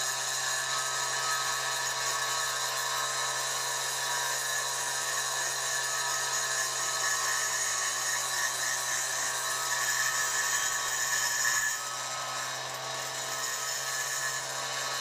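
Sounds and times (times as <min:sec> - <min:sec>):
electric grinder grinding metal: 0:00.0 - 0:15.0.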